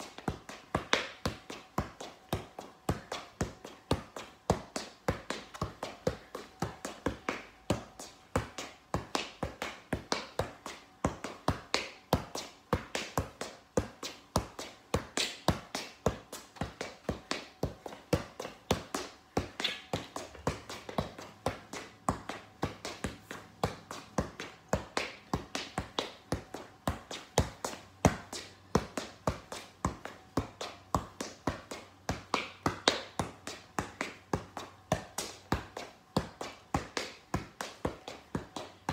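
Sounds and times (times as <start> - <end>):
soccer ball dull taps: 0.0 - 38.9.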